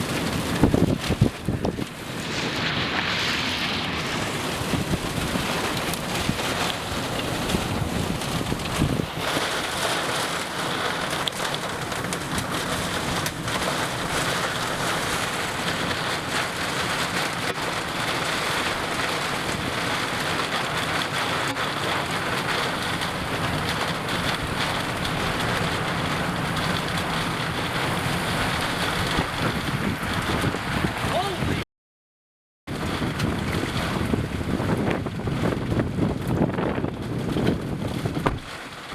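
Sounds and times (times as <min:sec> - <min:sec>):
heavy rain pelting down: 0:00.0 - 0:31.6, 0:32.7 - 0:38.9
strong wind: 0:00.0 - 0:31.6, 0:32.7 - 0:38.9.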